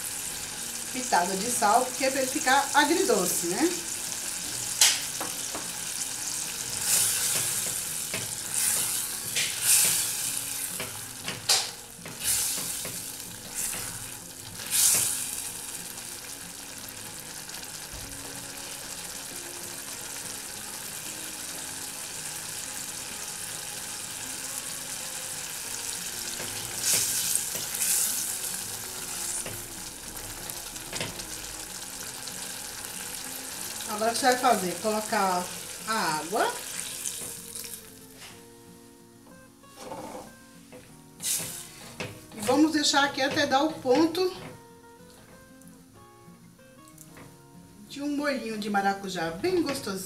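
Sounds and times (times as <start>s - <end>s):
food sizzling in a saucepan: 0.0s - 39.0s, 39.6s - 46.1s.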